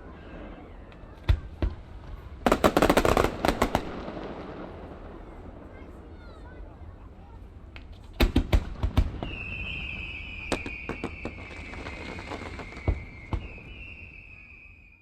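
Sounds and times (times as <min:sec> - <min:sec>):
whistling firework: 0:00.0 - 0:06.4, 0:07.8 - 0:15.0
firework crackles: 0:00.0 - 0:15.0
firework bangs: 0:00.2 - 0:06.2, 0:07.7 - 0:14.9.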